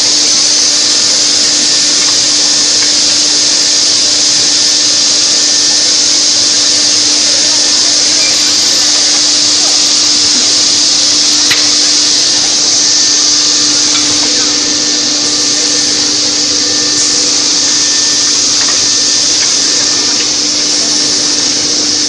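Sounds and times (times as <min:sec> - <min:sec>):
low machinery hum: 0:00.0 - 0:22.0
machine hissing: 0:00.0 - 0:22.0.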